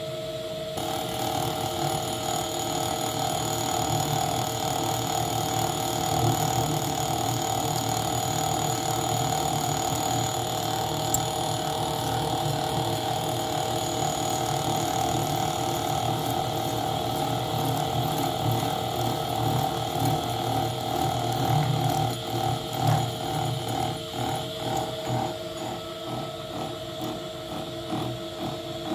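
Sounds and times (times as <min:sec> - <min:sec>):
steady motor drive tones: 0:00.0 - 0:28.9
milling machine cutting metal: 0:00.8 - 0:28.9.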